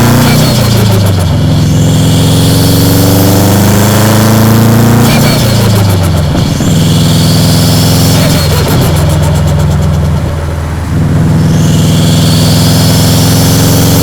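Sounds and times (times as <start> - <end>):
turbocharged car engine under load: 0.0 - 14.0.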